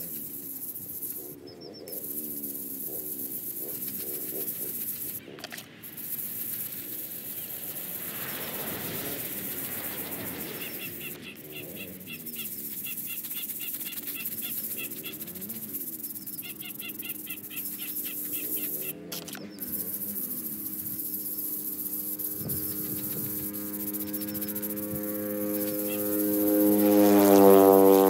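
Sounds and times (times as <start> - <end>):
quick high chirps: 1.9 - 26.6.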